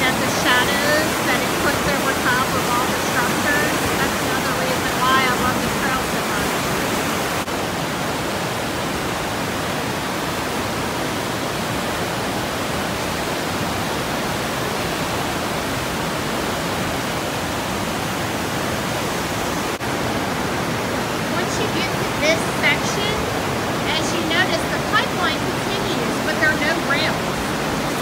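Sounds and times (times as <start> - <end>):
river rapids rushing over rocks: 0.0 - 28.0.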